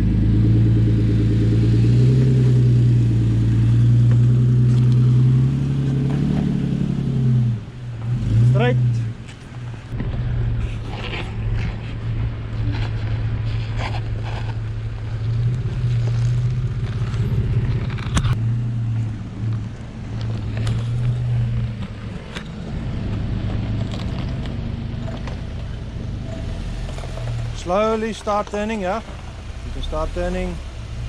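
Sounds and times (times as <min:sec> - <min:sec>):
engine running at low revs: 0:00.0 - 0:31.0.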